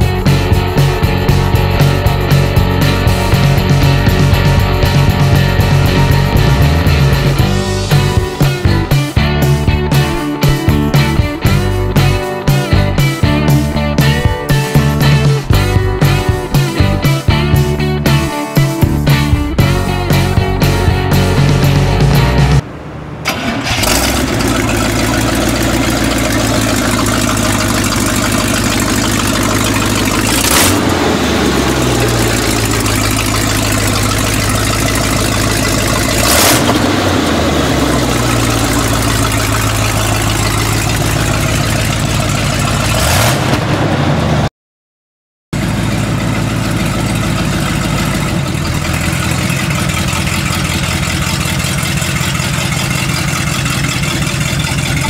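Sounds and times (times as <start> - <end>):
car engine idling and revving: 0.0 - 44.5, 45.6 - 55.0.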